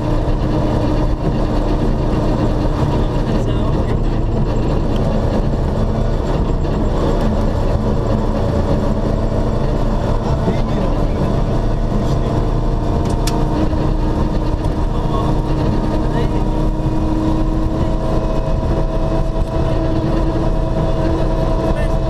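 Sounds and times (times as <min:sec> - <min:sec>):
car engine running: 0:00.0 - 0:22.0
tyre and road noise: 0:00.0 - 0:22.0.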